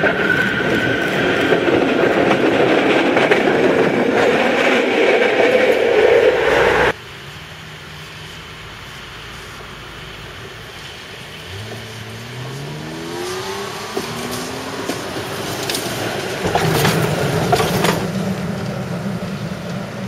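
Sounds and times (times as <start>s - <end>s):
wheels clicking on rails: 0.0s - 7.0s, 9.6s - 20.0s
tram motors whining: 0.0s - 20.0s.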